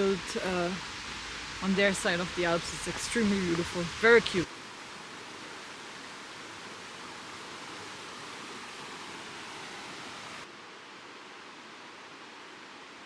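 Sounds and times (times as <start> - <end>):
rushing stream water: 0.0 - 13.0.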